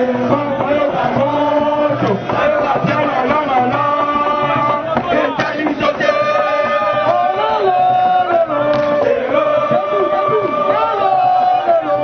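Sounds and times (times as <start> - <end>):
crowd chanting and singing: 0.0 - 12.0.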